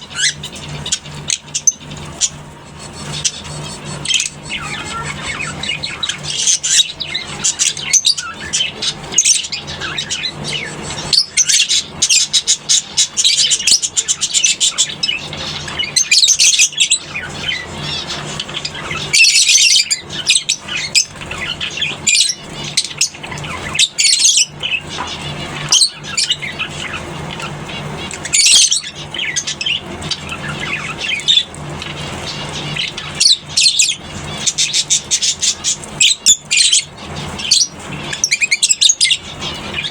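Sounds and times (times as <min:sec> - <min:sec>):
lovebirds chattering: 0:00.0 - 0:39.9
steady low hum: 0:00.0 - 0:39.9.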